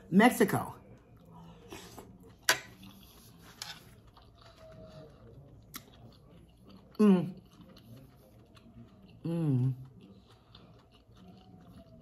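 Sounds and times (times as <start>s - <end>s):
person chewing: 0.9s - 12.0s.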